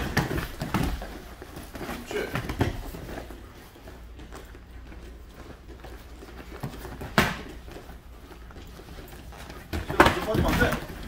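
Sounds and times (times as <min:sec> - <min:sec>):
footwork on gym mat: 0:00.0 - 0:11.0.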